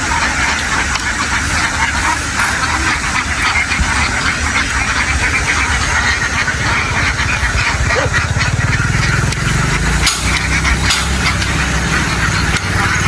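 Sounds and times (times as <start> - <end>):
boat engine pulsing: 0.0 - 13.0
ducks quacking: 0.0 - 13.0.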